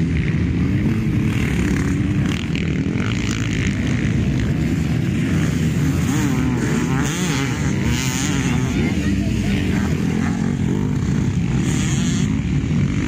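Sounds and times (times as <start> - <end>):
motocross bike engines racing: 0.0 - 13.0.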